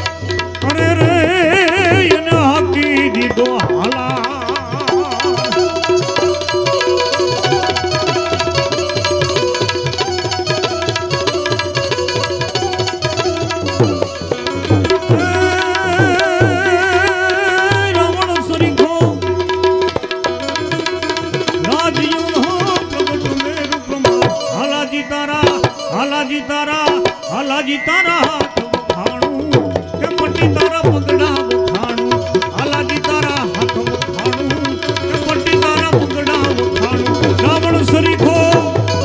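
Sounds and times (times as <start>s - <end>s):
sustained wavering melody: 0.0s - 39.0s
tabla strokes: 0.0s - 39.0s.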